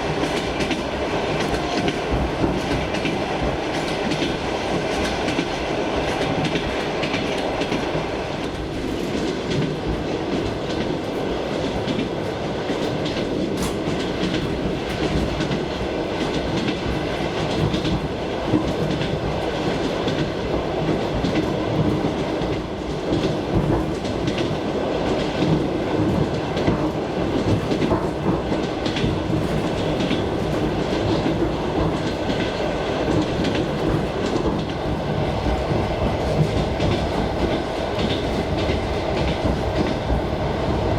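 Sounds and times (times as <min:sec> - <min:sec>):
train rumble: 0:00.0 - 0:40.9.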